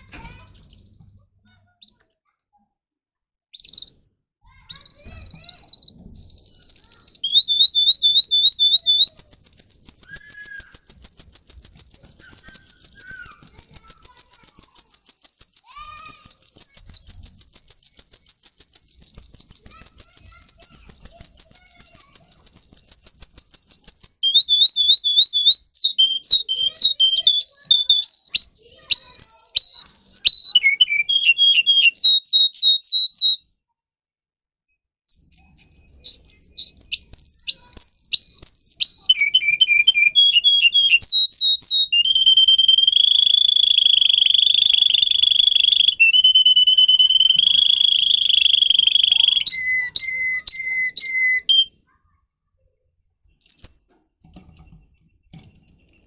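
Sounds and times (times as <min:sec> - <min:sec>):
canary singing: 0:00.0 - 0:02.3, 0:03.6 - 0:33.4, 0:35.1 - 0:52.2, 0:53.1 - 0:56.0.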